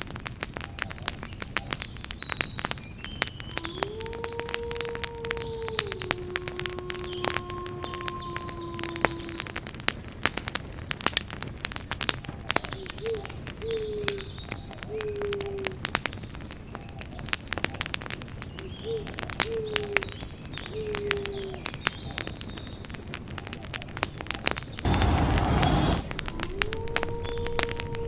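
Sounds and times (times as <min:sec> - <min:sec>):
campfire crackling and popping: 0:00.0 - 0:06.7, 0:08.9 - 0:28.0.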